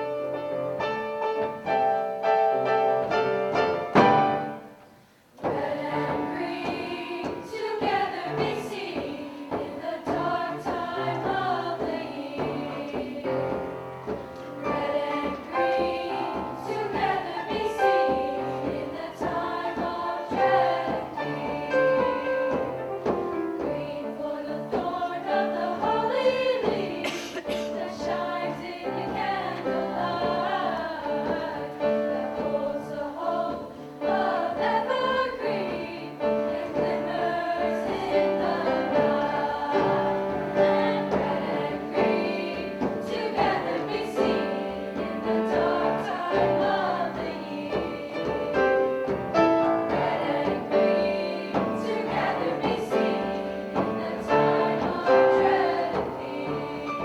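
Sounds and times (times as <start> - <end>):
women's choir singing in harmony: 0.0 - 57.0.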